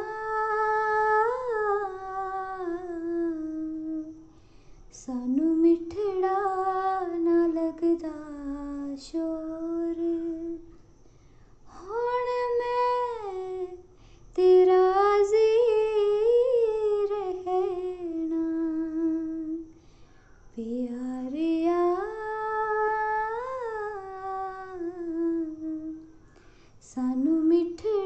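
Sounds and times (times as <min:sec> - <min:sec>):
woman singing unaccompanied: 0:00.0 - 0:04.3, 0:04.9 - 0:10.7, 0:11.7 - 0:19.8, 0:20.5 - 0:26.2, 0:26.8 - 0:28.0.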